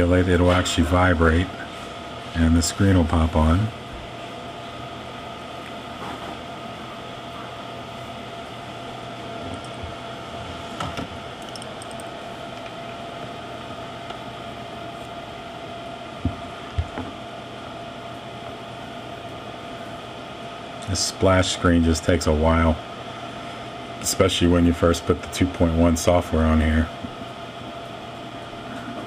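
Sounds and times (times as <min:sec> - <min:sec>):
faint high hum: 0:00.0 - 0:29.0.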